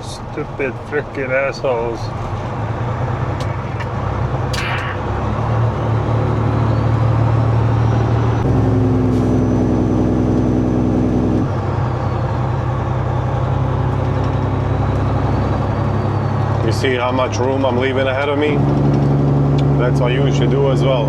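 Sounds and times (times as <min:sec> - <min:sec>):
truck engine drone: 0:00.0 - 0:20.7.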